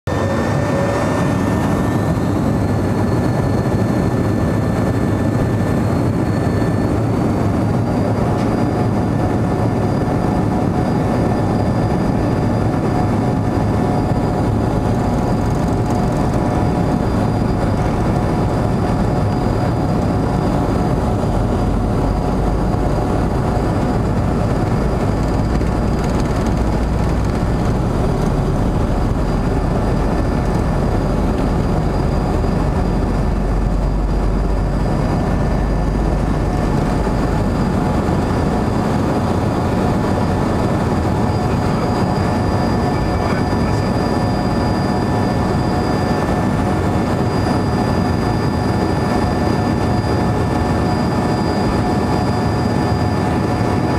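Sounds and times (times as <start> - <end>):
jet engine whine: 0.0 - 53.9
jet engine noise: 0.1 - 53.9
wheels rumbling on runway: 0.1 - 53.9.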